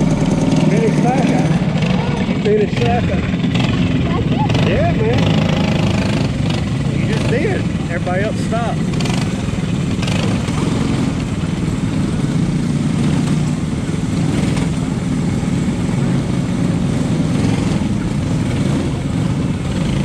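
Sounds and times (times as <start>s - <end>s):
kart engine idling: 0.0s - 20.0s.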